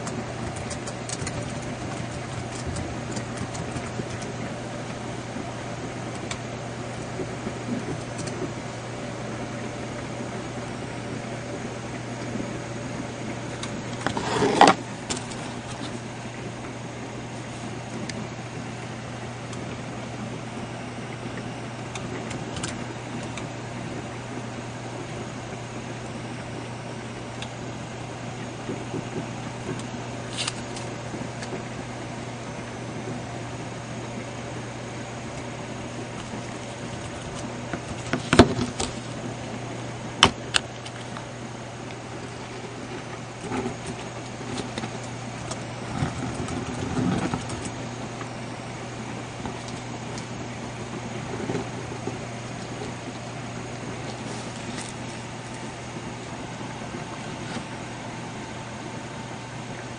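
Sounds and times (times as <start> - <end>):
fan humming and hissing: 0.0 - 59.9.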